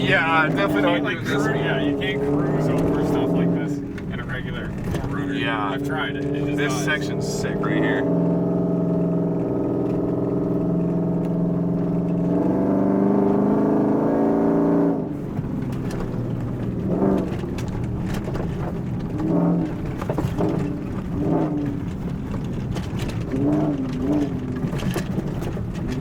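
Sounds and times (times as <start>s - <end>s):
pickup truck engine revving: 0.0s - 26.0s
truck rumbling over trail: 0.0s - 26.0s.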